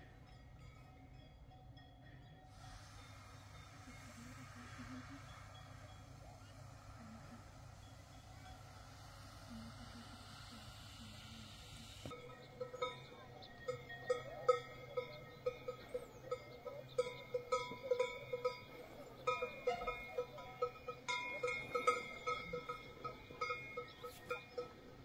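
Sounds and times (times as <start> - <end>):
cowbells clanking: 0.0 - 25.0.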